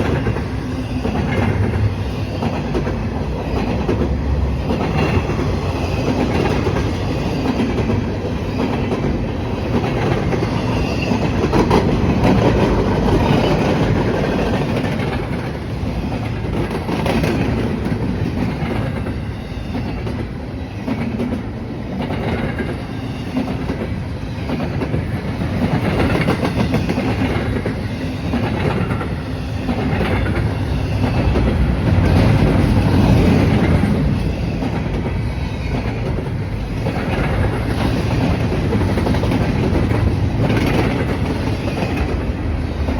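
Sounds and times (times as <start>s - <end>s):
train wheels clicking over rails: 0.0s - 42.9s.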